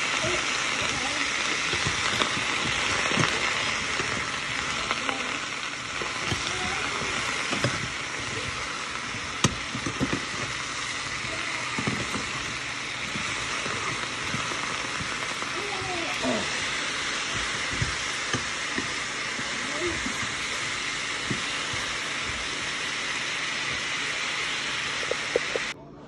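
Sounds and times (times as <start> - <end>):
vegetables sizzling in a frying pan: 0.0 - 25.8.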